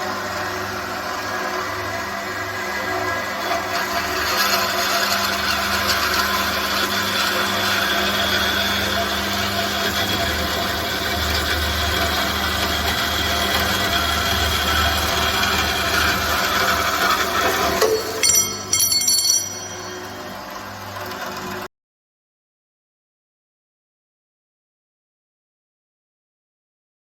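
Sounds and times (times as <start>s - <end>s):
band saw motor hum: 0.0s - 21.7s.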